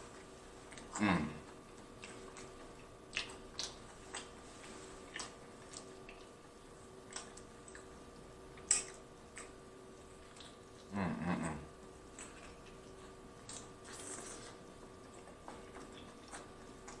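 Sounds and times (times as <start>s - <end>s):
faint steady hum: 0.0s - 17.0s
wet chewing mouth clicks: 0.2s - 10.9s, 12.0s - 17.0s.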